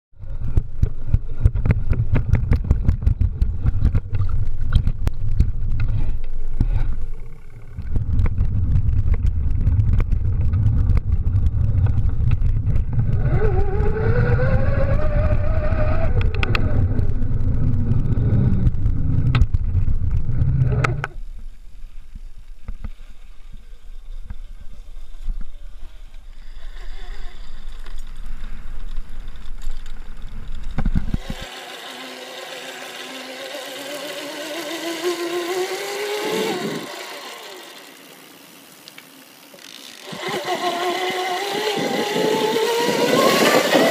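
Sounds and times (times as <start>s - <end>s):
low rumble of bike riding: 0.1s - 43.9s
electric drive whine: 0.2s - 43.9s.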